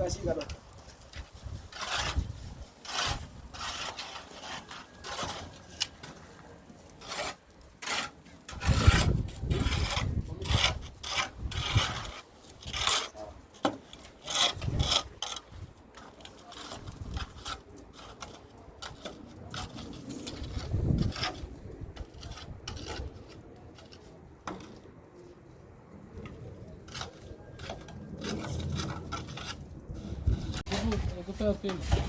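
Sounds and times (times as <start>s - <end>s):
hand tool scraping strokes: 0.0s - 24.9s, 26.6s - 32.0s.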